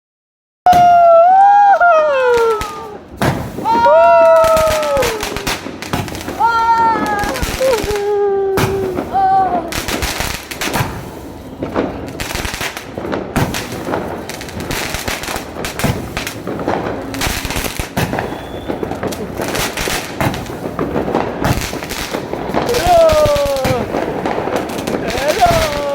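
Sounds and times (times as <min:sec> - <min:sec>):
fireworks bangs: 0:00.7 - 0:25.9
fireworks popping and crackling: 0:00.7 - 0:25.9.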